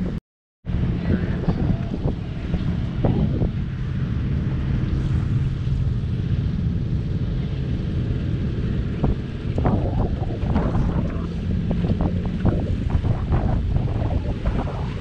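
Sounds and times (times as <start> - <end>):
wind buffeting microphone: 0.0 - 15.0
boat engine humming: 0.7 - 15.0.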